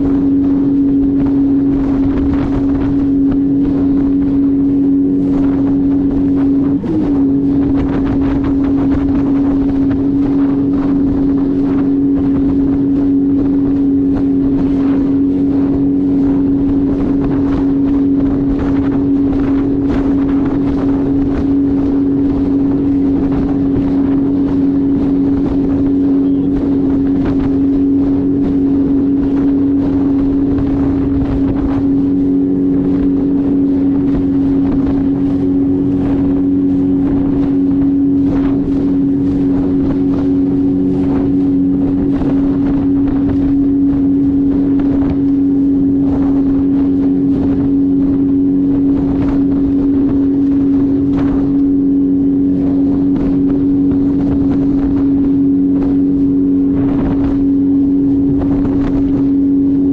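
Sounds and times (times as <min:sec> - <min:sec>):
jet ski engine droning: 0:00.0 - 0:59.9
wind buffeting microphone: 0:00.0 - 0:59.9.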